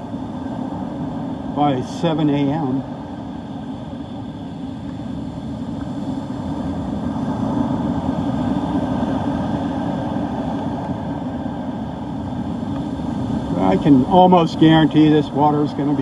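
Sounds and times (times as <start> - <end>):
surf breaking on beach: 0.0 - 4.4, 5.1 - 16.0
wind buffeting microphone: 0.0 - 16.0.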